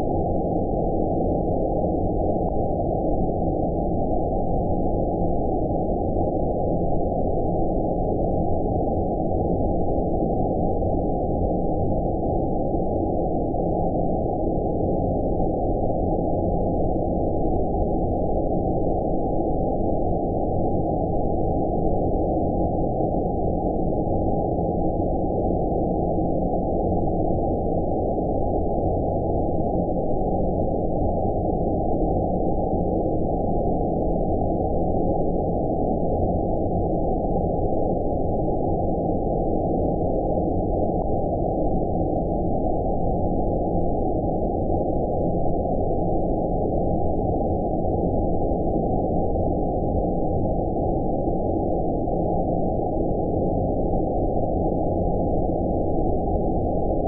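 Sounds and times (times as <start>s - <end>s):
muffled low white noise rush: 0.0s - 57.0s.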